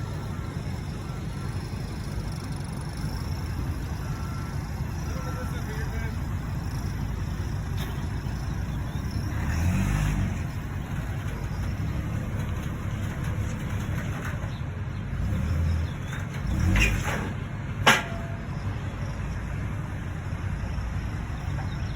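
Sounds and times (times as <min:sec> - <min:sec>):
road noise: 0:00.0 - 0:21.9
vehicle engine rumble: 0:00.0 - 0:21.9.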